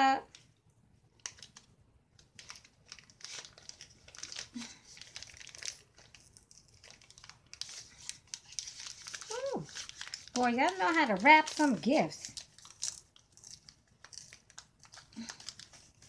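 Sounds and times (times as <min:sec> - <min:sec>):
ribbon peeling off gift wrapping: 0:01.2 - 0:16.0.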